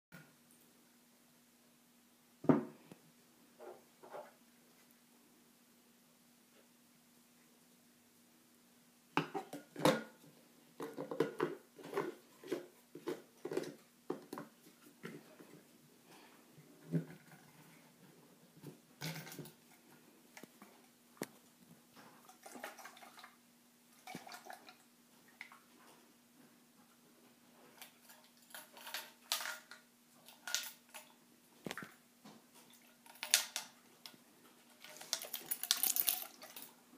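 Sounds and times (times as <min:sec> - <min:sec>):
faint steady hum: 0:00.2 - 0:36.9.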